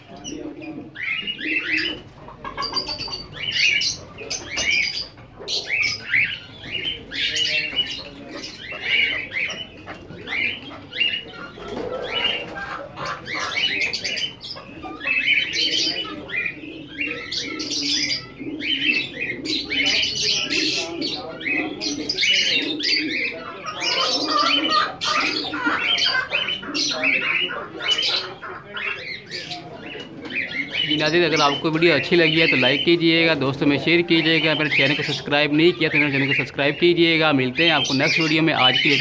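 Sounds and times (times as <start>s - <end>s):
low cooing: 0.0s - 32.4s
birds chirping high notes: 0.0s - 39.0s.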